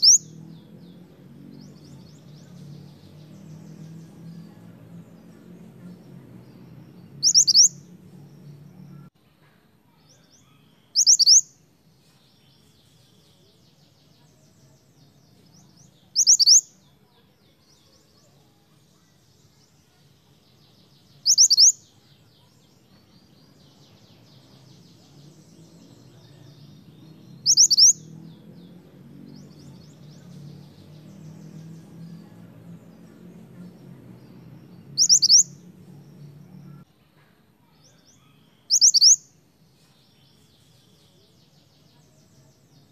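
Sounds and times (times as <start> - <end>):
faint high twittering: 0.0 - 9.1, 9.9 - 36.9, 37.6 - 42.9.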